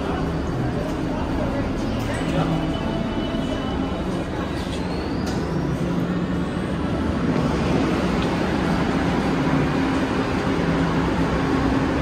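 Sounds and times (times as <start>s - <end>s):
subway train idling rumble: 0.0s - 12.0s.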